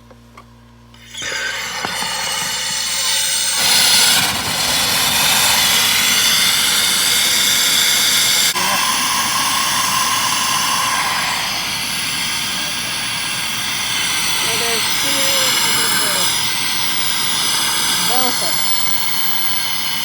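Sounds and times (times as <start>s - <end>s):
air rushing through plumbing: 0.9s - 20.0s.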